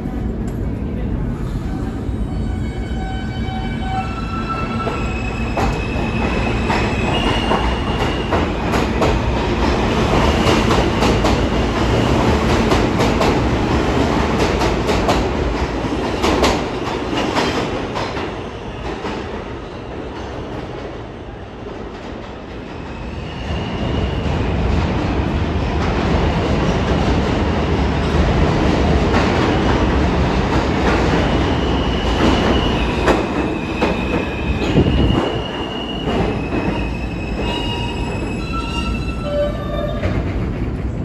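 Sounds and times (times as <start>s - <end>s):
subway train propulsion whine: 0.0s - 41.0s
train rumbling and wheel clatter: 0.0s - 41.0s.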